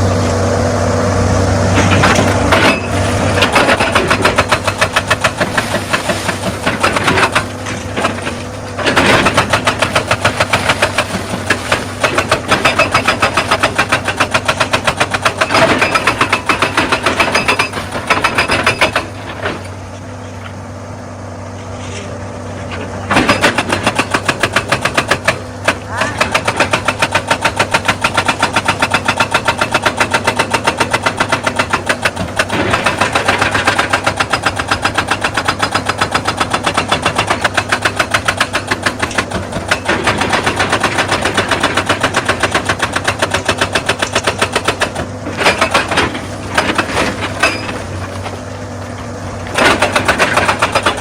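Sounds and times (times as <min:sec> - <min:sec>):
diesel engine running: 0:00.0 - 0:51.0
hydraulic breaker hammering stone: 0:01.7 - 0:19.8, 0:23.0 - 0:51.0.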